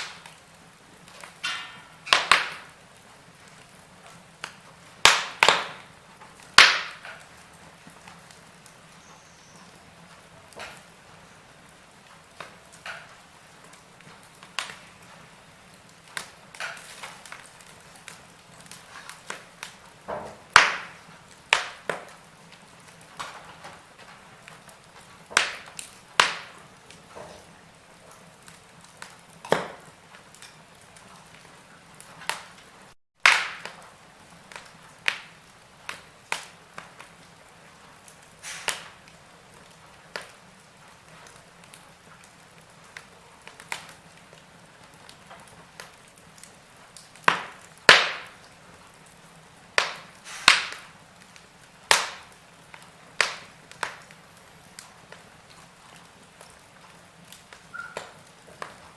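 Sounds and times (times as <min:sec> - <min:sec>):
faint steady hiss: 0:00.0 - 0:33.0, 0:33.6 - 0:58.9
wood fire crackling: 0:00.0 - 0:58.9.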